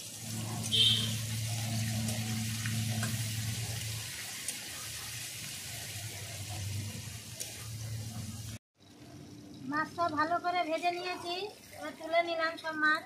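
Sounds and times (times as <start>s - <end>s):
fish frying sizzle: 0.0s - 13.0s.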